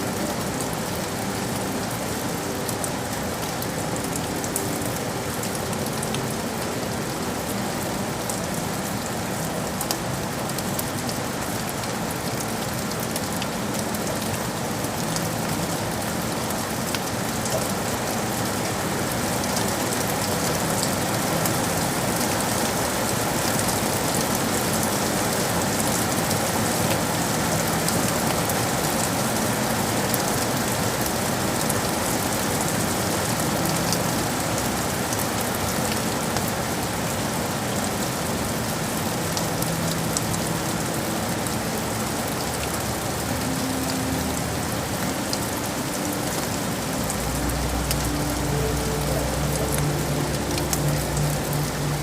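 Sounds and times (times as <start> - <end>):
heavy rain on hard surfaces: 0.0 - 52.0.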